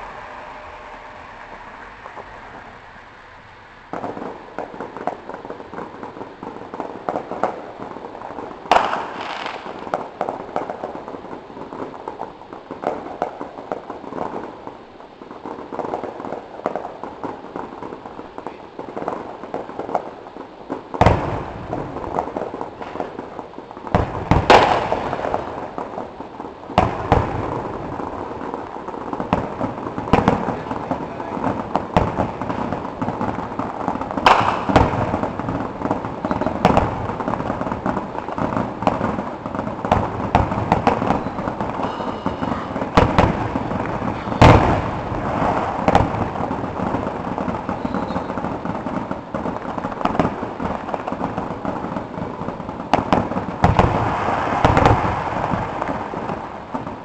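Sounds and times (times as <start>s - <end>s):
fireworks crackling and popping: 0.0s - 57.0s
loud firework bangs: 0.0s - 57.0s.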